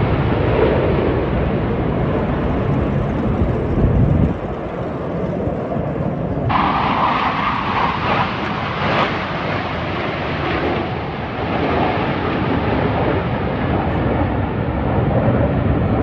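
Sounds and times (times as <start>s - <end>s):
jet roar flying past: 0.0s - 16.0s.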